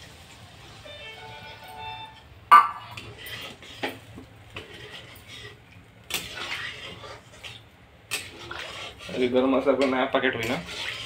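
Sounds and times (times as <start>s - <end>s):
ladle scraping a pan: 0.1s - 11.0s.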